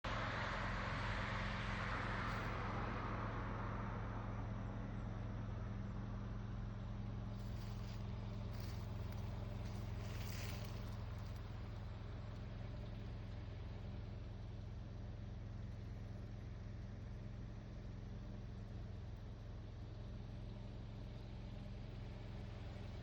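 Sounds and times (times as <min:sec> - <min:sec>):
low motor hum: 0:00.0 - 0:23.0.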